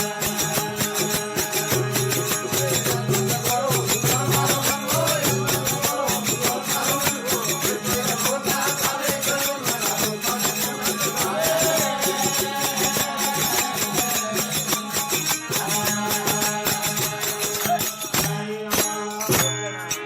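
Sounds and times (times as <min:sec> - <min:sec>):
jingling percussion: 0:00.0 - 0:20.0.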